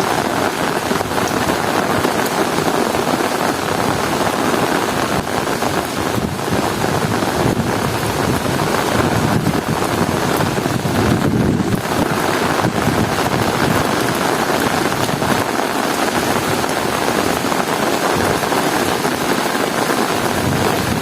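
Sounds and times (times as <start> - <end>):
heavy rain pouring: 0.0 - 21.0
strong wind: 0.0 - 21.0.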